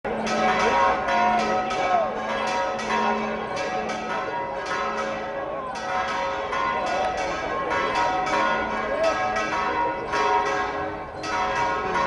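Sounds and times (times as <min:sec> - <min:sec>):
church bells pealing: 0:00.1 - 0:12.0.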